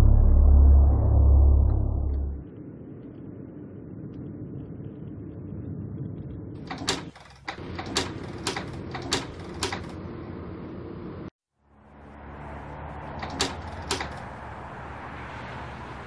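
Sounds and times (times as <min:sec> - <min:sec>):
car engine and road hum: 0:00.0 - 0:16.0.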